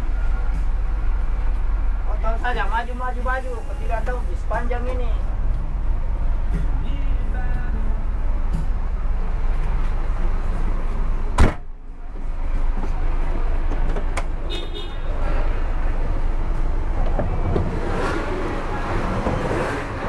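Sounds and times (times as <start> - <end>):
bus engine idling: 0.0 - 20.0.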